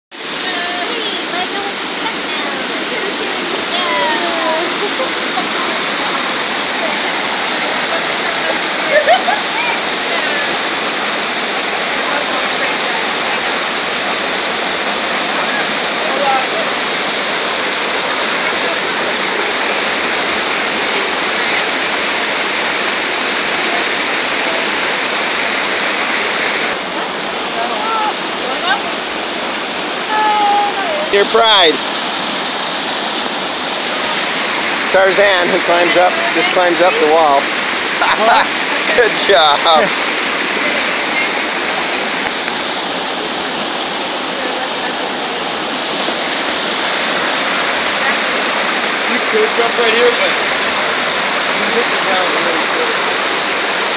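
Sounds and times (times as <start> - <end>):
waterfall rushing over rocks: 0.1 - 53.9.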